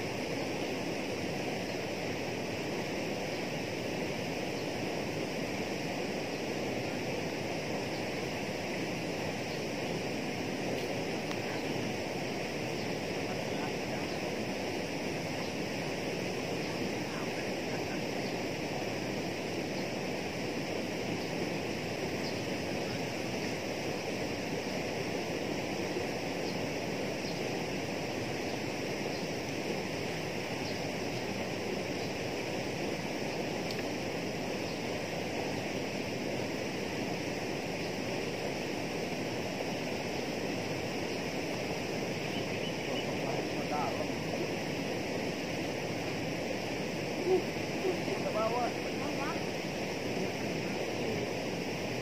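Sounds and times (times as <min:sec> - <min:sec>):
high hiss: 0:00.0 - 0:52.0.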